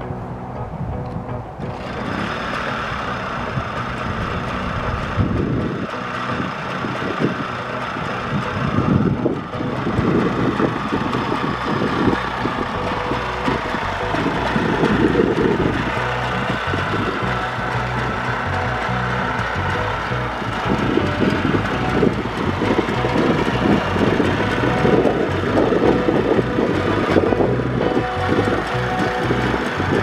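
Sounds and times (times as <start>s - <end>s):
moped engine idling: 0.0s - 30.0s
uneven low rumble: 0.0s - 30.0s.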